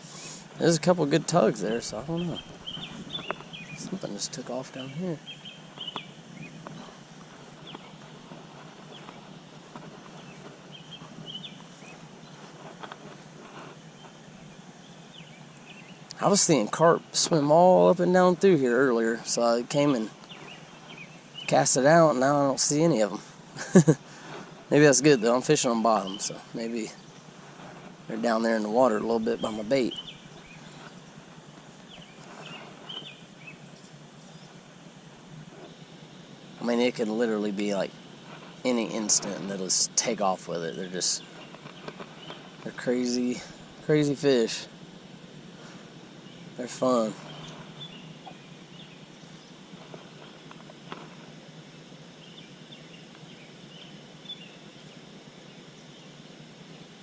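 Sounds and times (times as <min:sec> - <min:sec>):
bird chirping: 0:00.0 - 0:13.1, 0:13.8 - 0:50.9, 0:51.8 - 0:57.0
low background rumble: 0:00.0 - 0:57.0.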